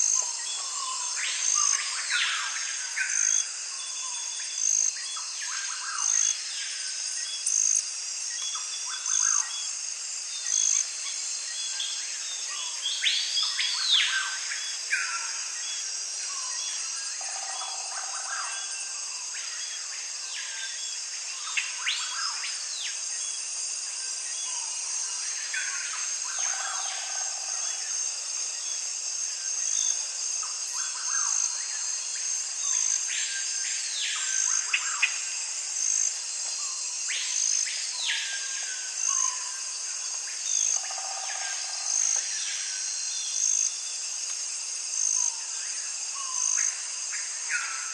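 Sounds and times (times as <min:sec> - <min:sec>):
insects trilling: 0:00.0 - 0:47.9.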